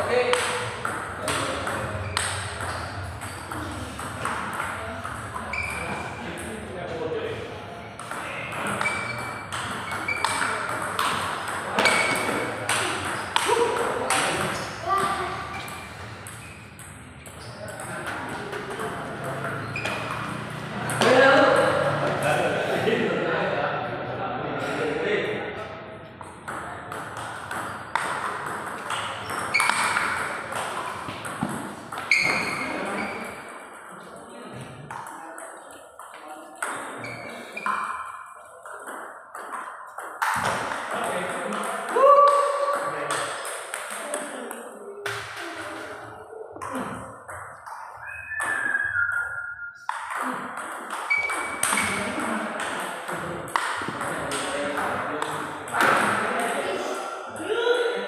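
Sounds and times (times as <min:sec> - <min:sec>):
table tennis ball hits: 0:00.1 - 0:06.5, 0:08.0 - 0:22.3, 0:26.2 - 0:34.1, 0:34.9 - 0:56.6.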